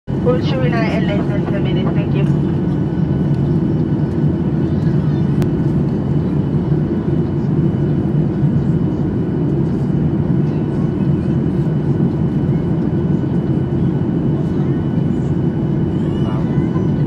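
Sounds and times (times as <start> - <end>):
jet engines roaring: 0.1 - 17.0.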